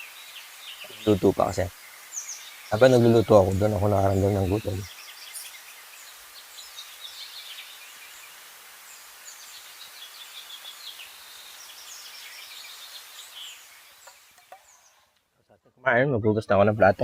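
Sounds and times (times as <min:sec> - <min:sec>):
outdoor ambience hiss: 0:00.0 - 0:17.0
small birds chirping: 0:00.0 - 0:17.0.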